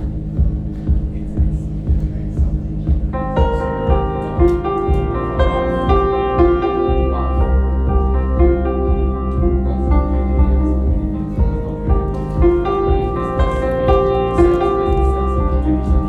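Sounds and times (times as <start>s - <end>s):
piano music over loudspeakers: 0.0s - 16.0s.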